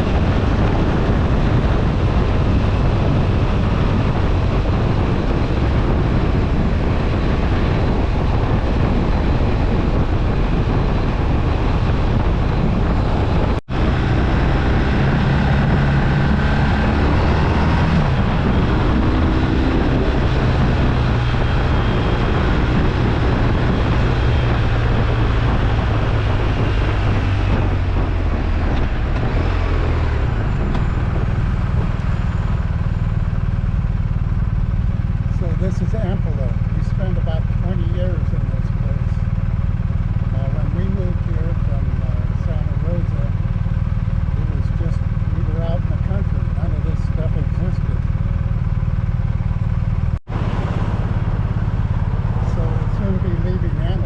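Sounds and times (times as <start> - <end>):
motorcycle engine hum: 0.0 - 54.0
road and wind rush: 0.0 - 54.0.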